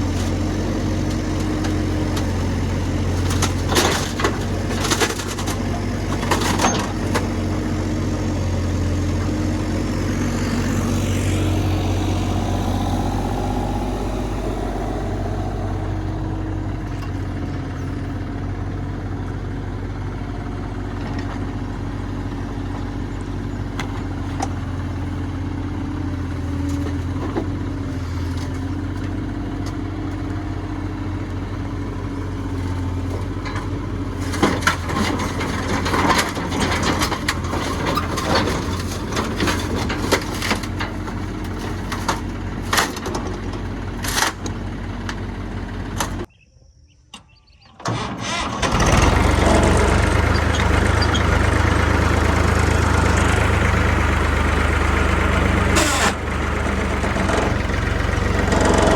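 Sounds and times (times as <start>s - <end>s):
excavator diesel engine running: 0.0s - 46.4s, 47.8s - 58.9s.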